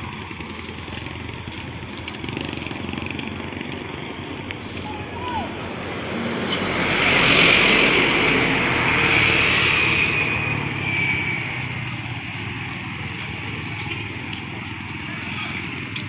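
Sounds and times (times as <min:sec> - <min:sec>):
vehicle driving past: 0:00.0 - 0:16.0.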